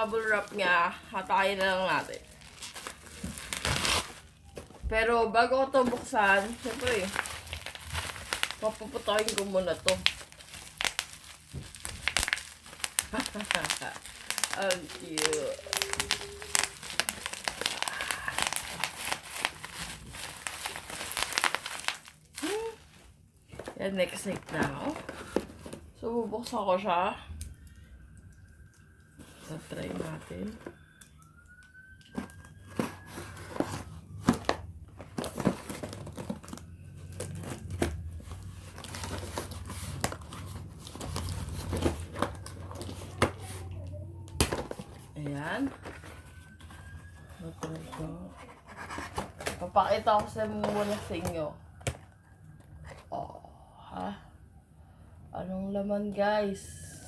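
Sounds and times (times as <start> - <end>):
bubble wrap crinkling and popping: 0.0 - 5.1, 5.7 - 25.9, 27.4 - 53.1.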